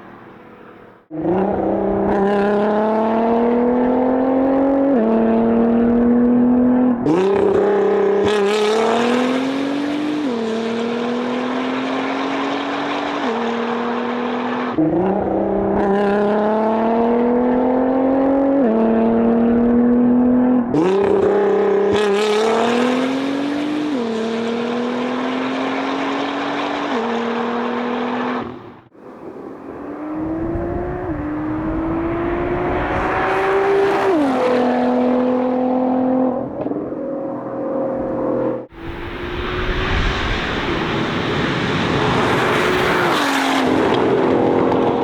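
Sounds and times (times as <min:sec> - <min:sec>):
car exhaust accelerating through gears: 0:00.0 - 0:45.0.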